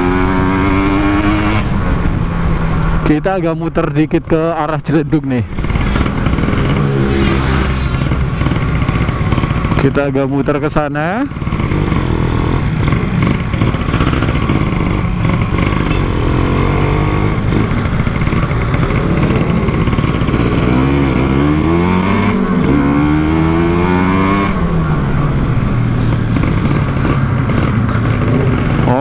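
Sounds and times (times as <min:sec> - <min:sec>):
two-stroke motorcycle engine revving: 0:00.0 - 0:03.0, 0:05.5 - 0:29.0.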